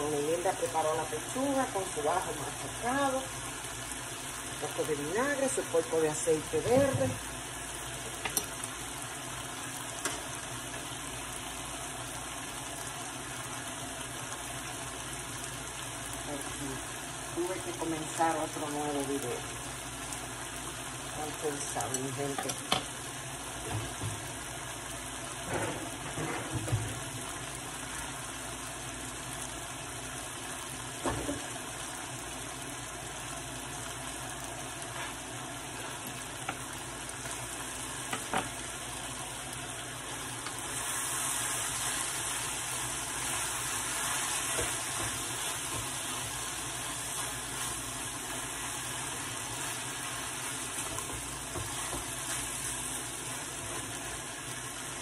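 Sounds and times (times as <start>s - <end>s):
meat and peppers sizzling in pan: 0.0s - 55.0s.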